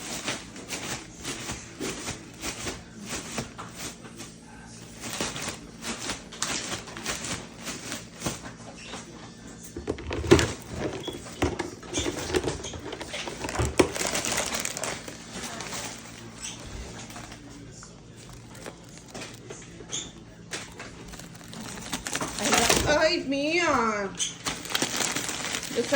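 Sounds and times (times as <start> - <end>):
clicking and clatter of containers: 0.0 - 23.6, 24.2 - 25.9.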